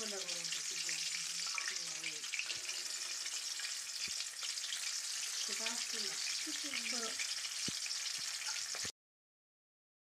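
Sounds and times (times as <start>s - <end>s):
chicken deep-frying in hot oil: 0.0s - 9.0s.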